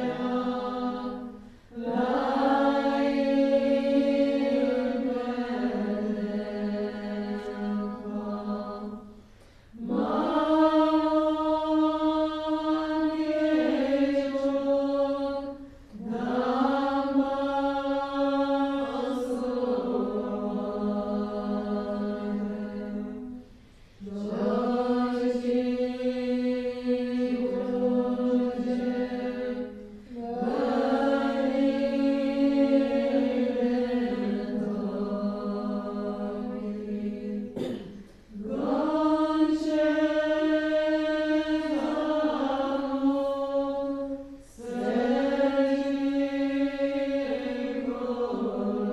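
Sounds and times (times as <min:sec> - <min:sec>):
women chanting in unison: 0:00.0 - 0:48.9.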